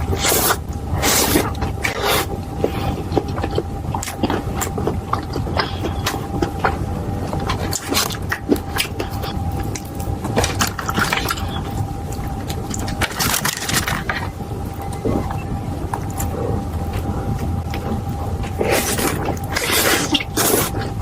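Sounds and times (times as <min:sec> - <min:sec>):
crunchy chewing of food: 0:00.0 - 0:21.0
steady low hum: 0:00.0 - 0:21.0.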